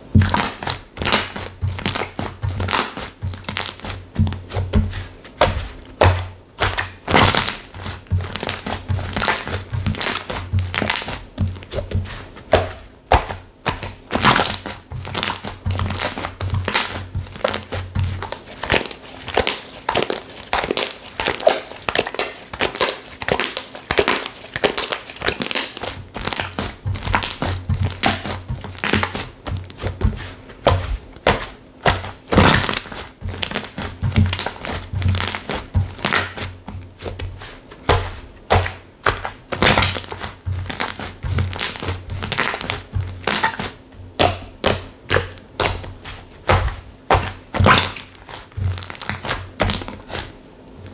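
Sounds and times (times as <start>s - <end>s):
slime squishing and crackling: 0.1s - 50.4s.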